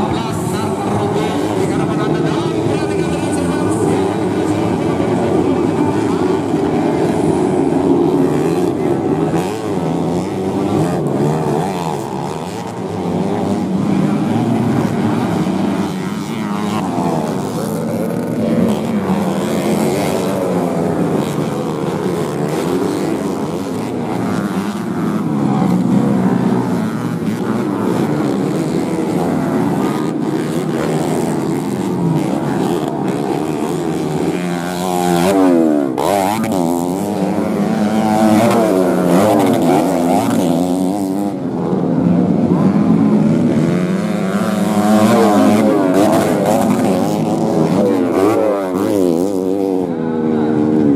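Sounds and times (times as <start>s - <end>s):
motorcycle engines revving: 0.0s - 50.9s
motorcycle passing close: 0.0s - 50.9s.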